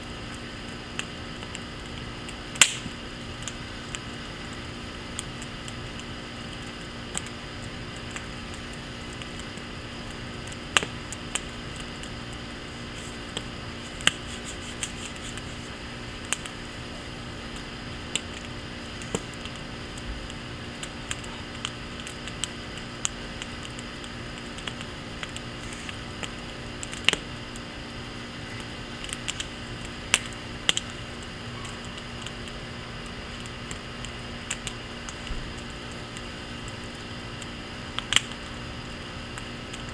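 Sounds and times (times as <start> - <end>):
faint background hum: 0.0 - 39.9
wood fire crackling: 0.0 - 39.9.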